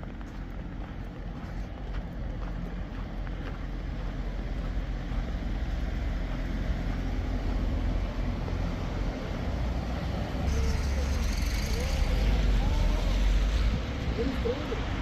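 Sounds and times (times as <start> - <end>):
road traffic rumble: 0.0 - 15.0
vehicle passing: 0.0 - 15.0.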